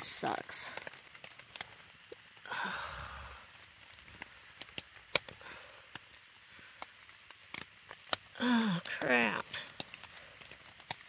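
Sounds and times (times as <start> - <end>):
raindrops ticking on tent: 0.0 - 11.0.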